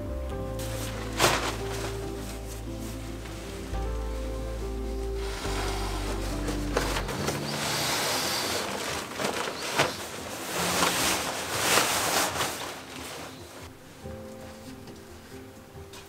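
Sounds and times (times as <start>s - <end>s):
music: 0.0s - 16.0s
fabric rustling and crinkling: 0.4s - 16.0s.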